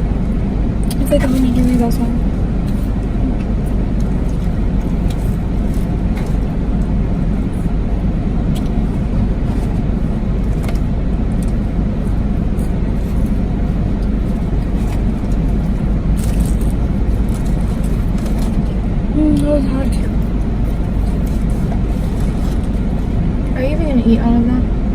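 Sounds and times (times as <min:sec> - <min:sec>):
car engine rumble inside car: 0:00.0 - 0:24.9.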